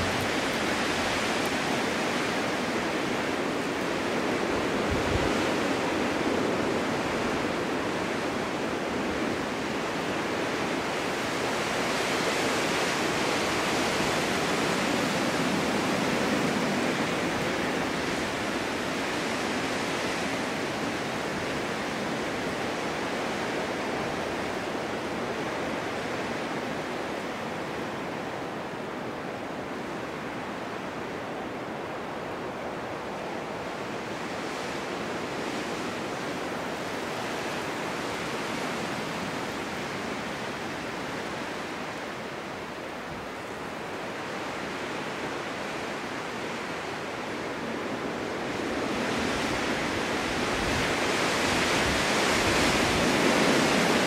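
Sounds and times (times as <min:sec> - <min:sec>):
snowstorm wind rushing: 0:00.0 - 0:54.0.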